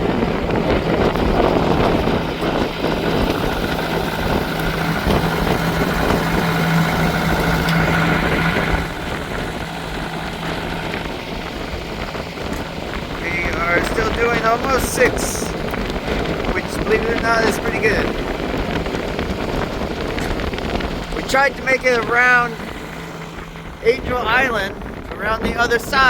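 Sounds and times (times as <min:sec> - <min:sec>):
boat engine droning: 0:00.0 - 0:26.0
boat in choppy water: 0:00.0 - 0:26.0
wind: 0:00.0 - 0:26.0.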